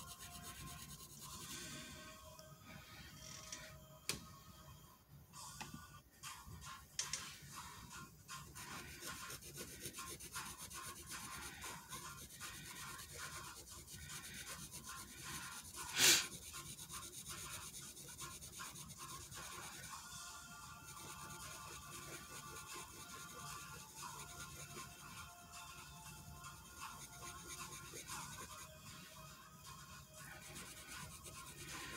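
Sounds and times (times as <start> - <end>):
marker scratching on paper: 0.0 - 1.8, 7.1 - 20.0, 20.7 - 31.9.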